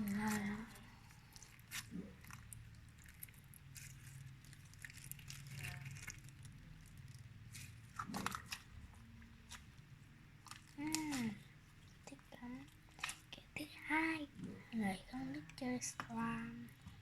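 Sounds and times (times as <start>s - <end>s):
slime squishing and crackling: 0.0s - 13.6s.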